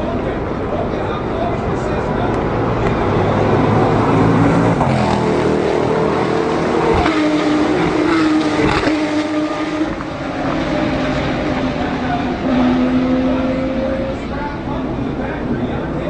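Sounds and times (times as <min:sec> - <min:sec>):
racing cars passing at speed: 0:00.0 - 0:16.0.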